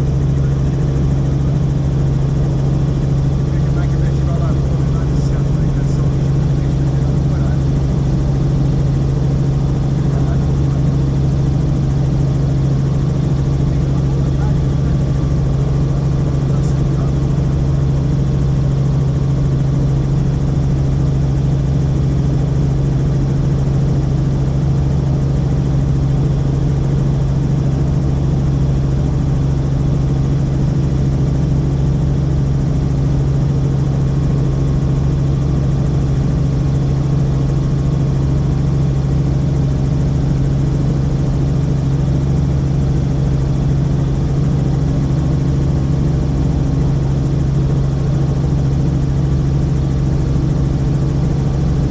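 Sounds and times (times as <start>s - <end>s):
helicopter cabin drone: 0.0s - 51.9s.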